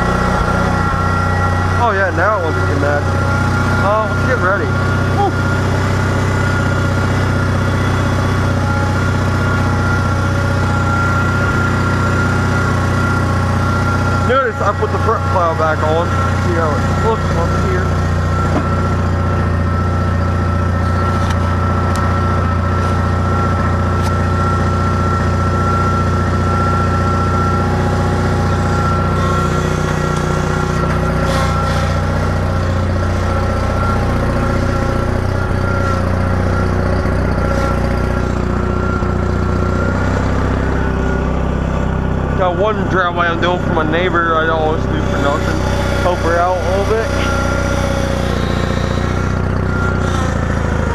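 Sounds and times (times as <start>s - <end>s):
small tractor engine running: 0.0s - 50.9s
thin steady whine: 0.0s - 50.9s.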